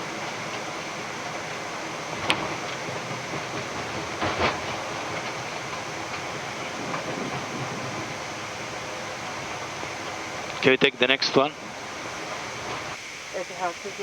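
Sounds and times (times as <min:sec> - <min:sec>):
loud clatter: 0:00.0 - 0:13.0
airplane landing rush and rumble: 0:00.0 - 0:14.0.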